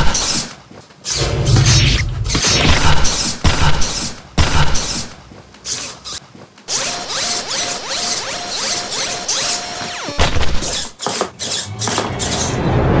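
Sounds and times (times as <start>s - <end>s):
servo motors whirring and grinding: 1.1s - 12.6s.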